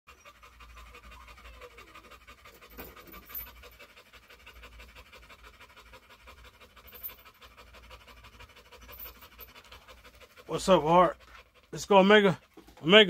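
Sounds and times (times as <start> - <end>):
dog panting rapidly: 0.1 - 13.0.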